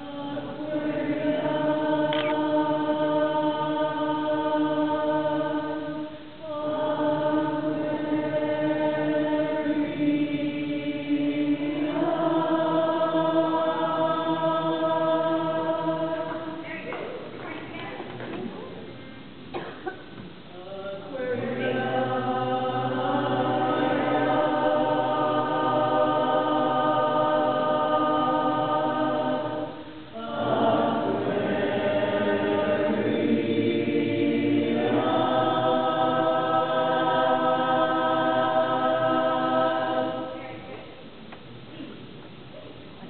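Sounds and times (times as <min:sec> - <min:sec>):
women's chorus singing a cappella: 0:00.0 - 0:17.4, 0:20.5 - 0:41.1.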